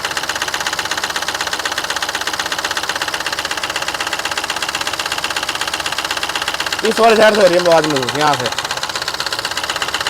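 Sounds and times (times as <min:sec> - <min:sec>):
diesel engine idling with clatter: 0:00.0 - 0:10.0.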